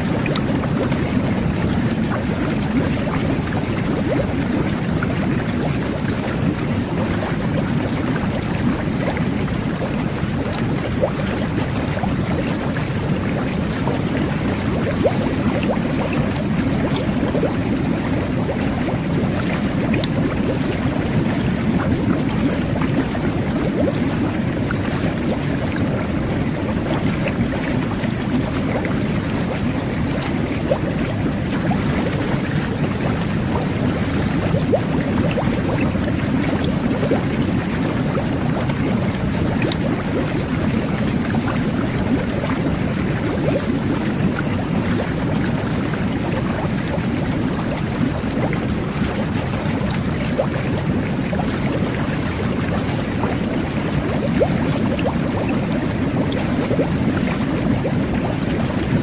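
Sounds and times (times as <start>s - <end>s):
whirlpool water jets churning: 0.0s - 59.0s.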